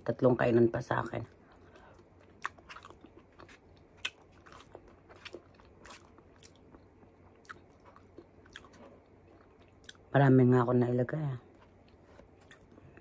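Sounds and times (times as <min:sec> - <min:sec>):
person chewing food: 0:01.2 - 0:10.1, 0:11.4 - 0:13.0.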